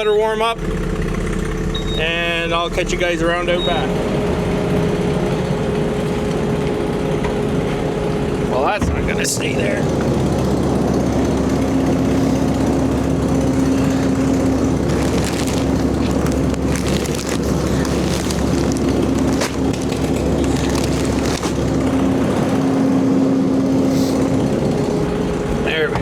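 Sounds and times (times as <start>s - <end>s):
diesel skid steer engine running: 0.0s - 26.0s.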